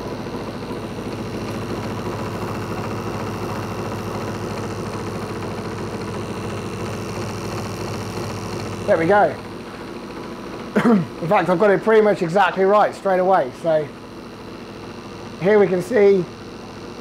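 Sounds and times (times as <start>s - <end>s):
testing machine motor humming: 0.0s - 17.0s.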